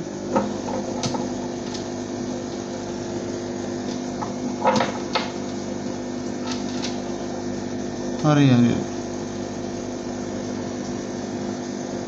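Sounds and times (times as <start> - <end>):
aquarium pump hum: 0.0 - 12.0.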